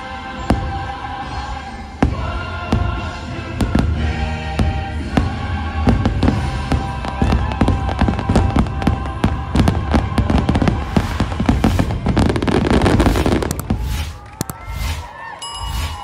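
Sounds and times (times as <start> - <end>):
christmas music soundtrack: 0.0 - 16.0
fireworks booming and crackling: 0.4 - 16.0.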